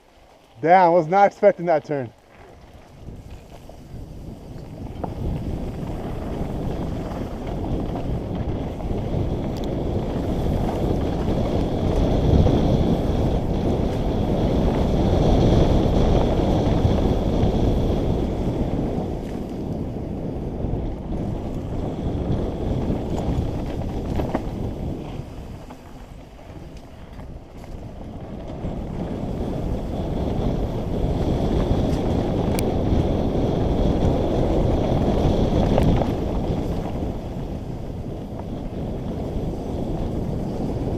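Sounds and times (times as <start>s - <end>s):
bike tyre and rattle noise: 0.0s - 40.9s
wind rushing over microphone: 0.0s - 40.9s.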